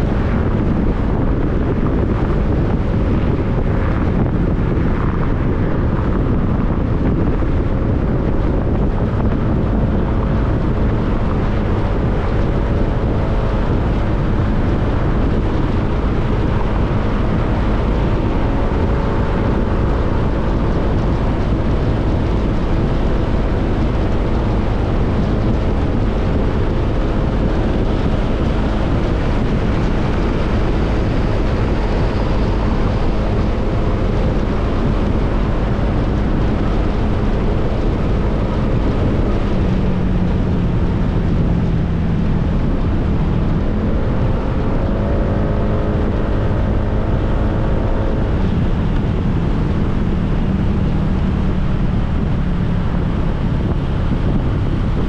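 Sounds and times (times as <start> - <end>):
motorcycle engine running: 0.0 - 55.0
road noise: 0.0 - 55.0
wind rushing over microphone: 0.0 - 55.0.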